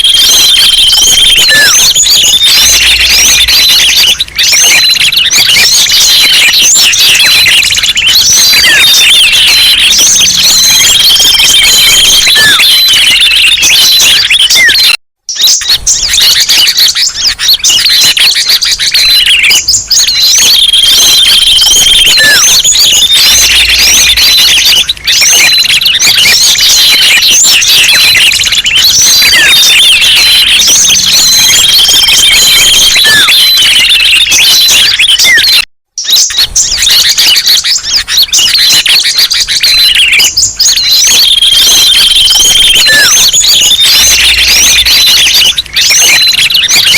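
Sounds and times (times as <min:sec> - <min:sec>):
held whistled note: 0:00.0 - 0:35.7, 0:36.3 - 0:46.9
chorus of songbirds chirping: 0:00.0 - 0:46.9.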